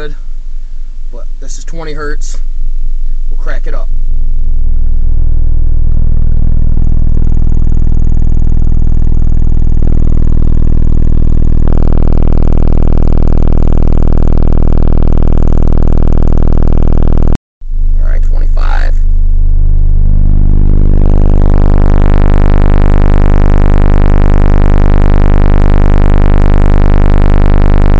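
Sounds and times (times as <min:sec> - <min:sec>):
loud distorted subwoofer drone: 0:00.0 - 0:27.9.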